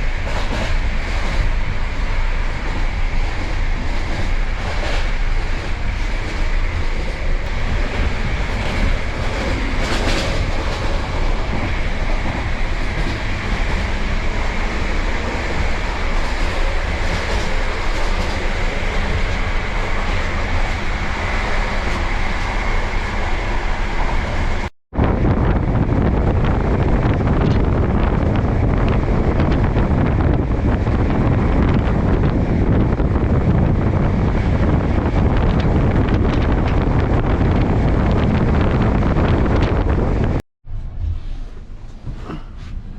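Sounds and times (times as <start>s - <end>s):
train carriage noise: 0.0s - 42.9s
train wheels rumbling on track: 0.0s - 42.9s.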